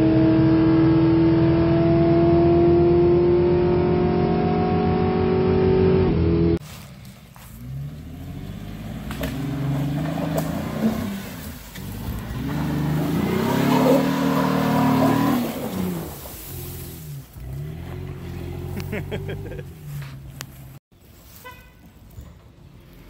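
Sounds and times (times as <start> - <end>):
car engine revving: 0.0 - 6.6, 7.6 - 20.8.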